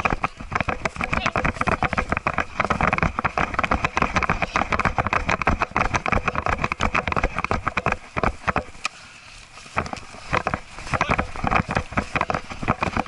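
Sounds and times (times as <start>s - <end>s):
camera rattling inside case: 0.0s - 8.8s, 9.6s - 13.0s.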